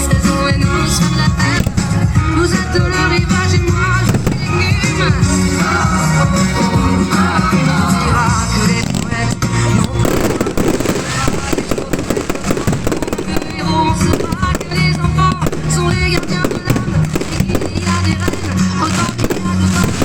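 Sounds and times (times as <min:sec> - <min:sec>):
fireworks bursting and crackling: 0:00.0 - 0:20.0
pop song with singing: 0:00.0 - 0:20.0.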